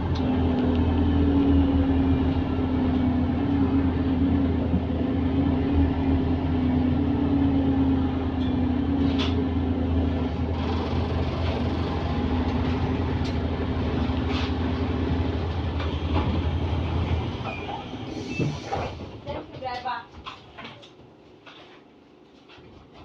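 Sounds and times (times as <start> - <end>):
bus diesel engine drone: 0.0 - 19.4.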